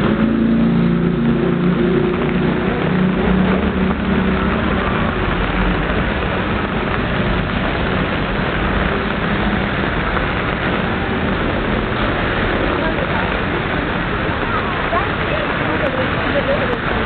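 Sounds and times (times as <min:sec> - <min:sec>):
rain hiss: 0:00.0 - 0:17.0
traffic on wet road: 0:00.0 - 0:17.0
vehicle engine hum: 0:00.0 - 0:17.0.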